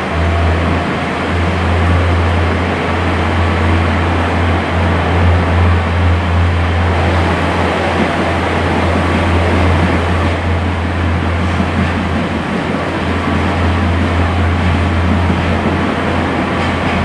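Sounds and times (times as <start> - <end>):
diesel engine drone: 0.0 - 17.0
wheels rumbling on track: 0.0 - 17.0.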